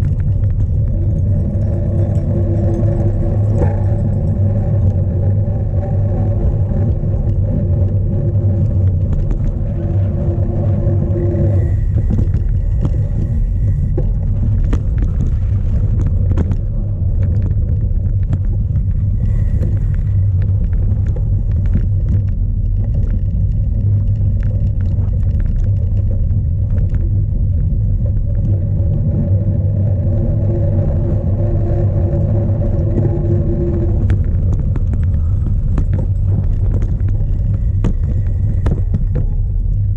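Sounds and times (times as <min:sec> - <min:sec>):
bike rattling over rough ground: 0:00.0 - 0:39.9
steady hum: 0:00.0 - 0:39.9
wind buffeting microphone: 0:00.0 - 0:39.9.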